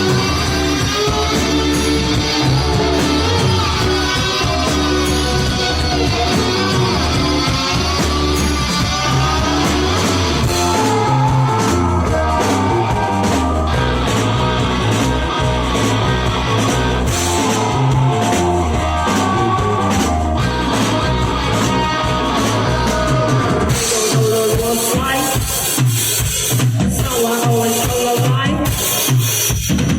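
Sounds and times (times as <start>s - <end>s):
bass line: 0.0s - 29.9s
drum kit: 0.0s - 29.9s
electric guitar: 0.0s - 29.9s.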